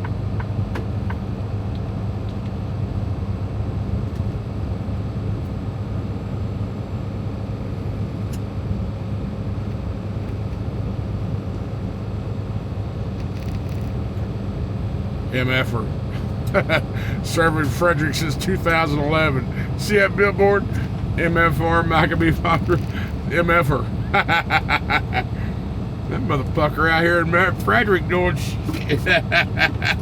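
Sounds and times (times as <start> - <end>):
road noise: 0.0 - 30.0
truck engine droning: 0.0 - 30.0.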